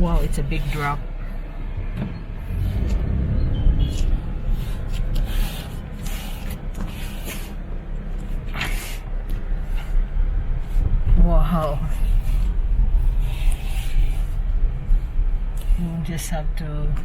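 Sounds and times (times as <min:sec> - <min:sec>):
car rumbling over uneven ground: 0:00.0 - 0:17.0.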